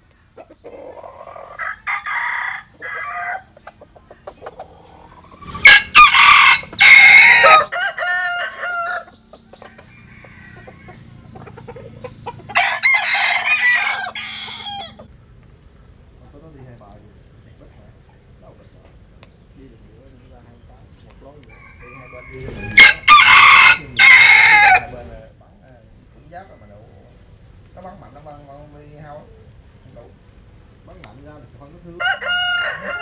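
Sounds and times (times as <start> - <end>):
roosters crowing: 0.3 - 33.0.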